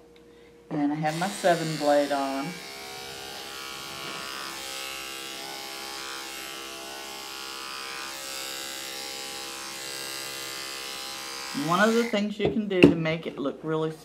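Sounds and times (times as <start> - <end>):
electric clippers humming: 0.9 - 12.3.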